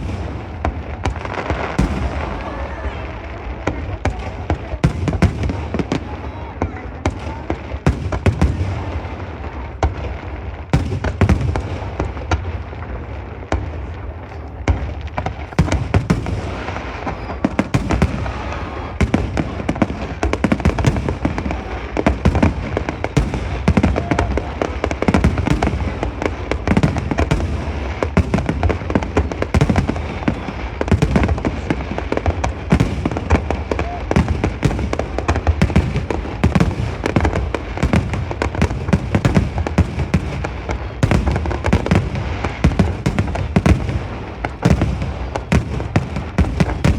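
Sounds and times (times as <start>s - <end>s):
firework booms: 0.0s - 46.9s
firework crackles: 0.0s - 46.9s.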